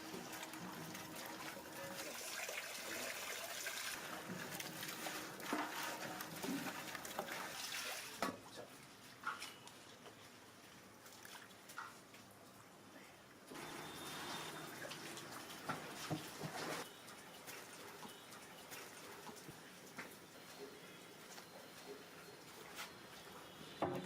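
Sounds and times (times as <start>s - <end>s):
water trickling and sloshing: 0.0s - 12.8s, 13.5s - 24.0s.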